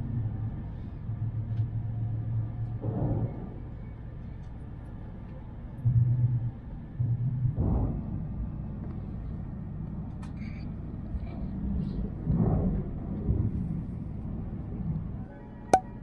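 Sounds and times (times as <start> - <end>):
train interior low rumble: 0.0 - 15.6.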